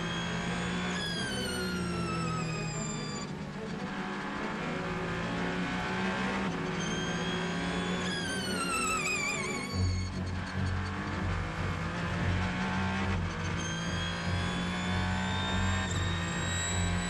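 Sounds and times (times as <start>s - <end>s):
race car engine at speed: 0.0s - 17.0s.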